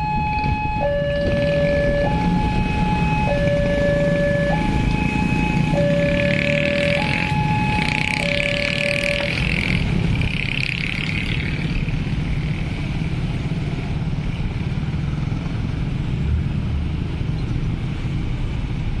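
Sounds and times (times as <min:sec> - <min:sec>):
motorcycle and car engines: 0:00.0 - 0:19.0.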